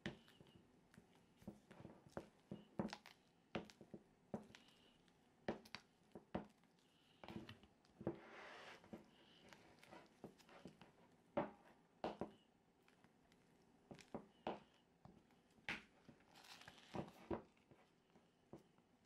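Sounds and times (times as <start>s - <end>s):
spatula squelching and scraping frosting: 0.0s - 11.0s, 12.8s - 18.4s.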